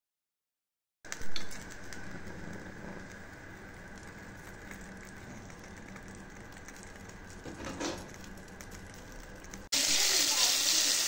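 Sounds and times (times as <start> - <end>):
low background hum: 1.1 - 11.0
oil hissing and crackling in pan: 1.1 - 11.0.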